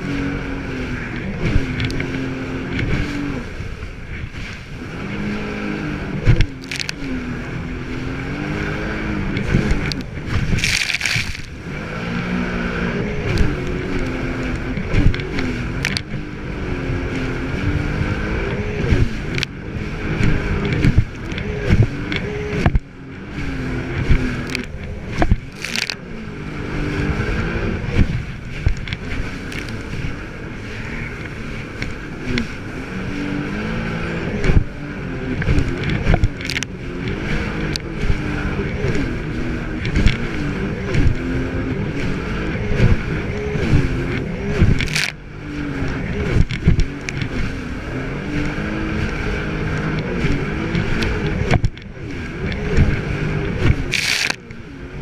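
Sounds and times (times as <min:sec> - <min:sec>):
hull slapping over water: 0:00.0 - 0:55.0
jet ski engine running: 0:00.0 - 0:55.0.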